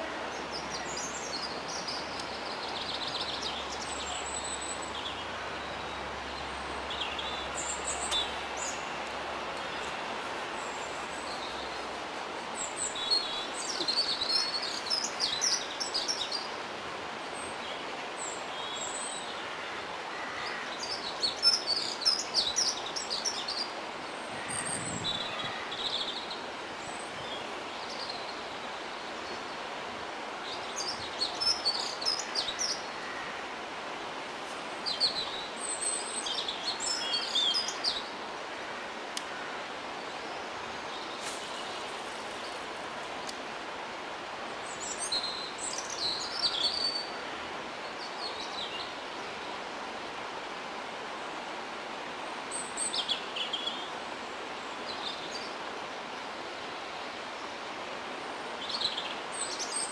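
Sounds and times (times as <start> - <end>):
outdoor background hiss: 0.0 - 59.9
songbirds chirping: 0.0 - 59.9.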